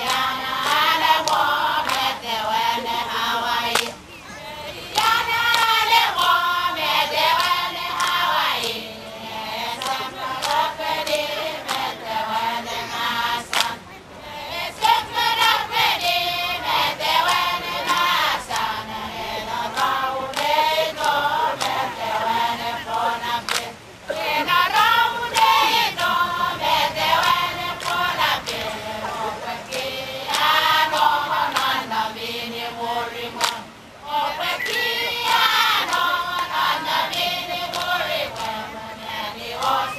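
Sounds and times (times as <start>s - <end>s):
women singing a chant: 0.0s - 39.9s.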